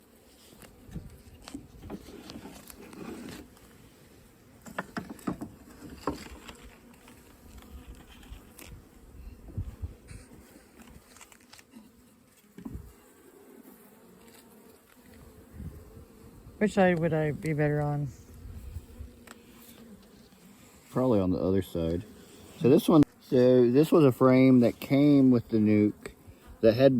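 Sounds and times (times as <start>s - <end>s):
honeybees buzzing: 0.0s - 26.9s.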